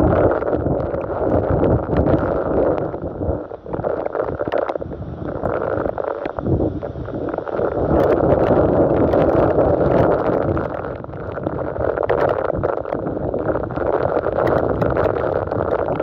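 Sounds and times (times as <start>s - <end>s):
gusting wind: 0.0s - 16.0s
torrential rain: 0.0s - 16.0s.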